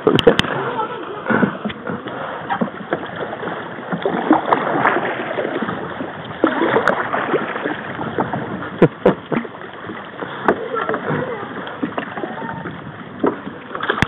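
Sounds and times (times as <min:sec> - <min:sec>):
paddles splashing water: 0:00.0 - 0:14.0.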